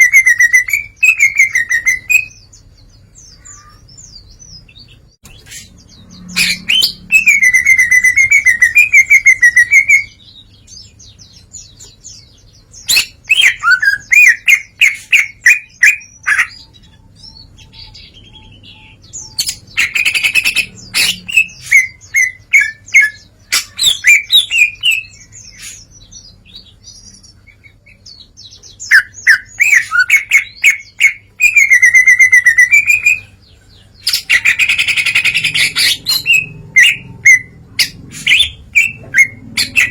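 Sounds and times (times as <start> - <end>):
bird singing warbles and trills: 0.0 - 39.9.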